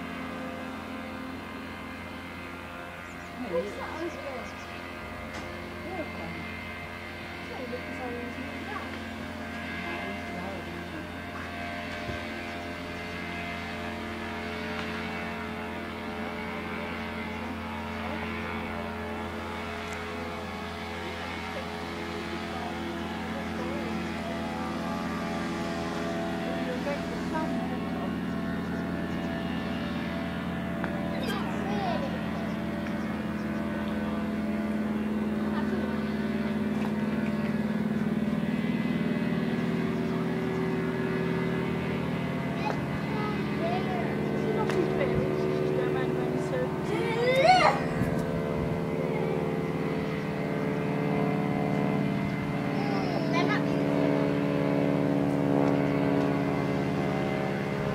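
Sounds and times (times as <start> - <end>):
steady engine drone: 0.0 - 57.9.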